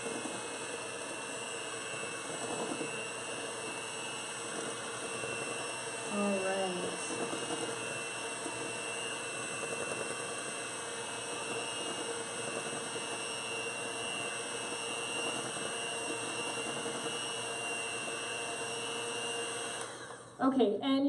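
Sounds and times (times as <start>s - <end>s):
electric hand mixer whining: 0.0s - 20.4s.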